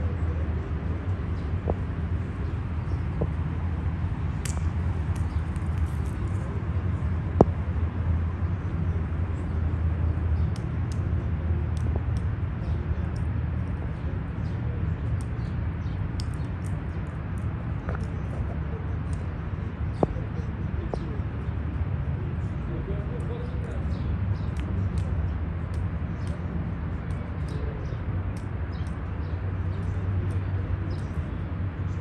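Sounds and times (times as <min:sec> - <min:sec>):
low city rumble: 0:00.0 - 0:32.0
small birds chirping: 0:00.0 - 0:32.0.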